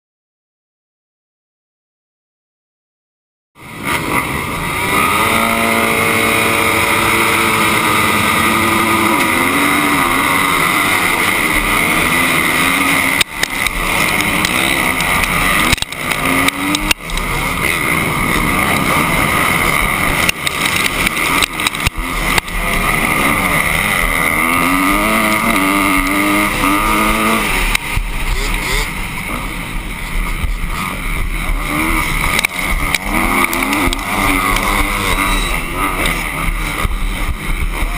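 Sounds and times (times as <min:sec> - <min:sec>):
loud steady noise: 0:03.6 - 0:37.9
motocross bike engines revving: 0:03.6 - 0:37.9.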